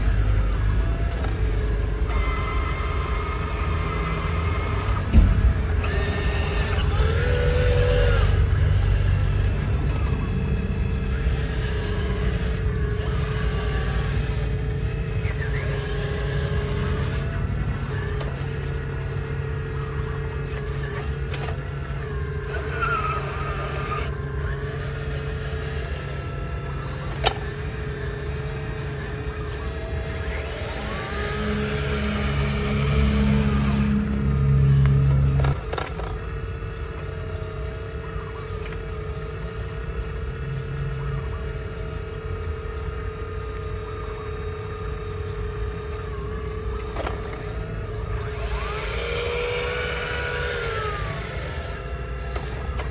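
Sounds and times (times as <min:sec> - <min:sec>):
model excavator hydraulic whine: 0:00.0 - 0:52.9.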